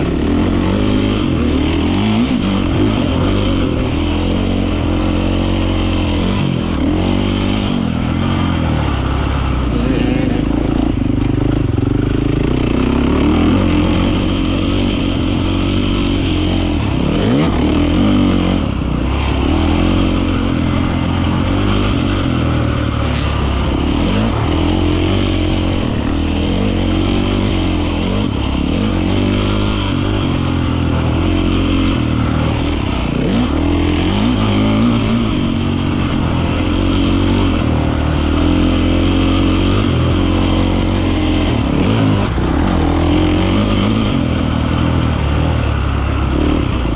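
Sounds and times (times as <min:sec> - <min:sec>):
motocross engine revving: 0:00.0 - 0:46.9.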